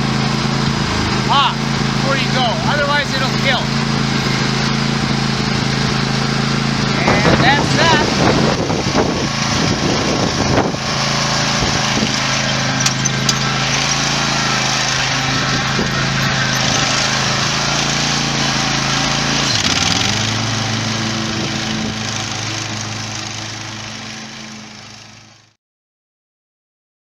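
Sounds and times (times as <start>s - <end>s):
mower engine running: 0.0s - 25.6s.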